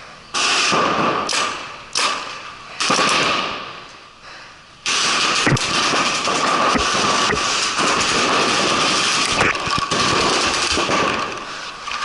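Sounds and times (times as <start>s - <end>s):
paintball markers firing bursts: 0.4s - 3.6s, 4.9s - 11.4s.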